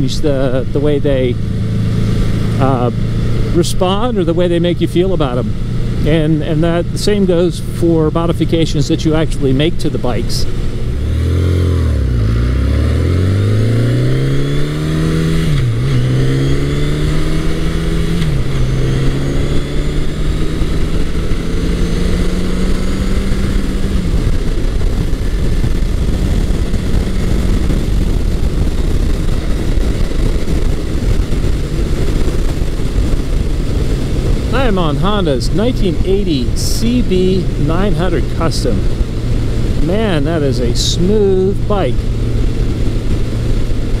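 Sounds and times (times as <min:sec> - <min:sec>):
motorcycle engine accelerating: 0:00.0 - 0:44.0
wind and road noise: 0:00.0 - 0:44.0.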